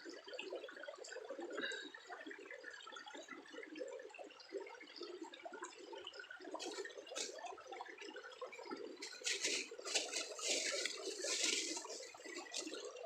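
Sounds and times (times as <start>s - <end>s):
water trickling and gurgling: 0.0s - 13.0s.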